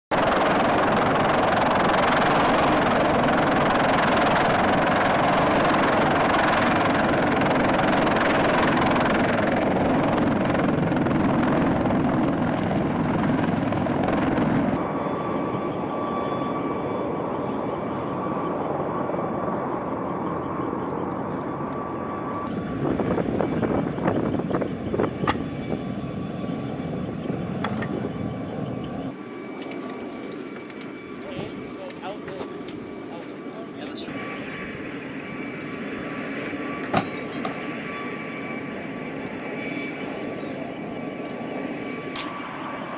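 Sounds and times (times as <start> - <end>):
helicopter hovering: 0.1 - 42.9.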